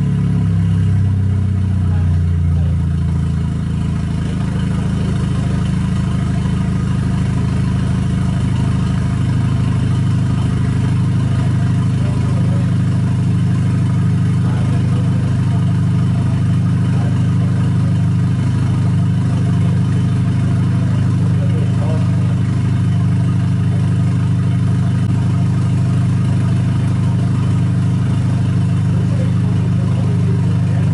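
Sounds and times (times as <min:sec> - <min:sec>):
car engine running steadily: 0:00.0 - 0:30.9.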